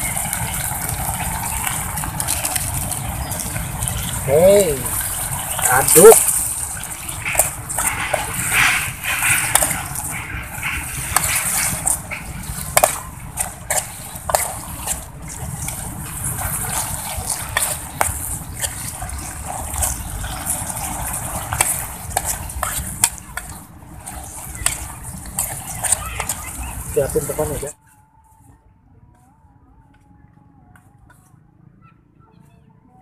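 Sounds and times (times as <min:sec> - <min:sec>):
food sloshing in liquid: 0:00.0 - 0:27.6
metal spoon scraping pot: 0:00.0 - 0:27.6.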